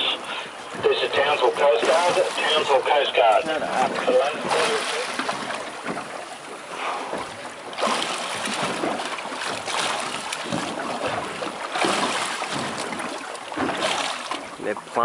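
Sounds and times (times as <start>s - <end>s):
sea water washing around boat: 0.0s - 15.0s.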